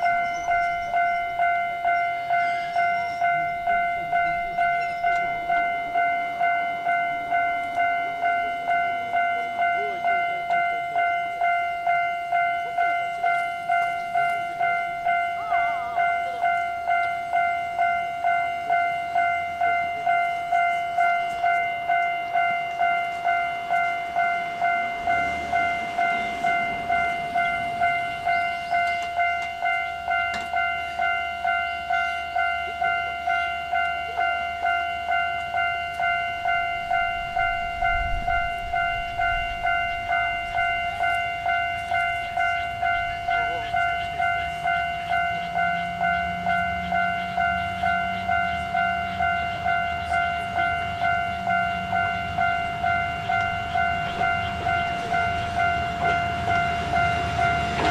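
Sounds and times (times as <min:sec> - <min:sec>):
diesel railcar rumbling: 0:00.0 - 0:57.9
level-crossing alarm bell ringing: 0:00.0 - 0:57.9.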